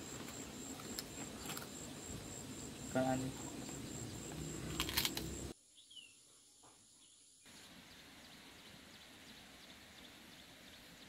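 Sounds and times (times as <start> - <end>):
faint countryside ambience: 0.0 - 11.0.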